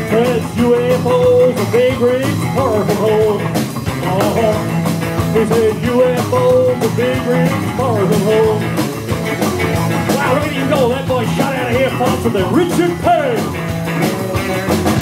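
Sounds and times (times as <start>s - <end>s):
rockabilly band playing: 0.0s - 15.0s
steady drum hits: 0.0s - 15.0s.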